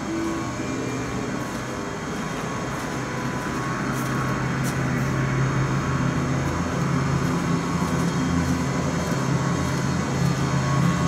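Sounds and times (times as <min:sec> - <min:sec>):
cars passing: 0:00.0 - 0:11.0
low engine hum: 0:00.0 - 0:11.0.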